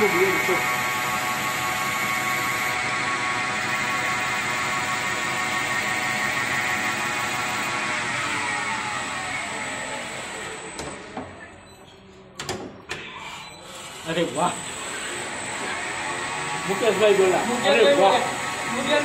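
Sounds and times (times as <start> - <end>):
lathe spindle whine: 0.0 - 11.1, 13.7 - 19.0.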